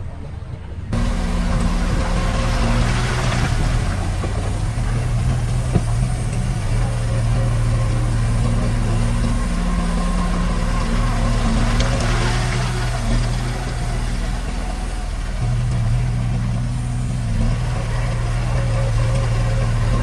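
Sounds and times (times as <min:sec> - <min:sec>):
diesel engine running at low revs: 0:00.0 - 0:20.0.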